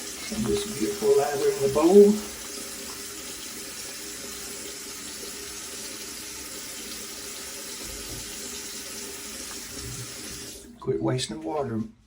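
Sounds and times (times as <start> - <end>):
tap water running into sink: 0.0 - 10.8.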